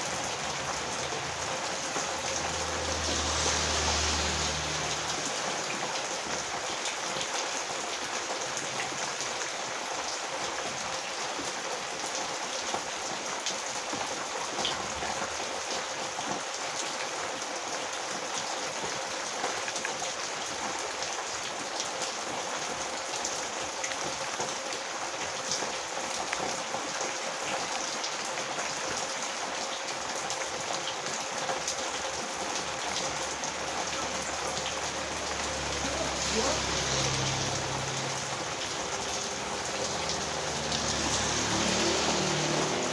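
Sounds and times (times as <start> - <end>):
heavy rain on hard surfaces: 0.0 - 42.9.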